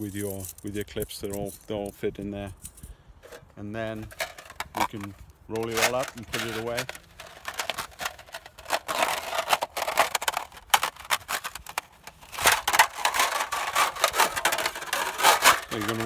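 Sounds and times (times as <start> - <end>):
thin metal sheets crinkling: 0.0 - 16.0.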